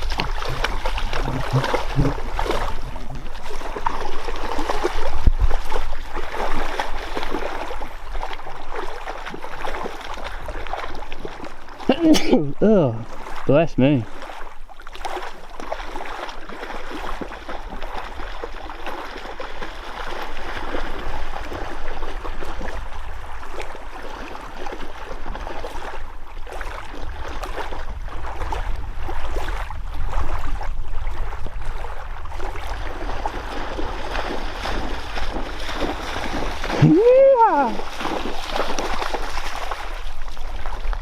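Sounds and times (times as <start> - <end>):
water sloshing and splashing: 0.0 - 41.0.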